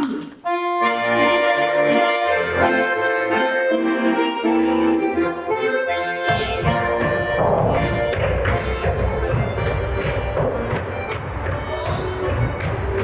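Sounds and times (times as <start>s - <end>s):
accordion folk dance music: 0.0s - 13.0s.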